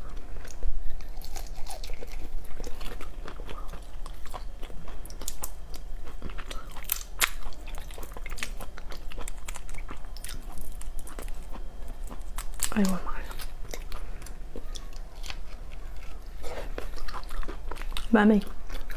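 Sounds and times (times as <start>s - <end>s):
wet chewing: 0.0s - 18.9s.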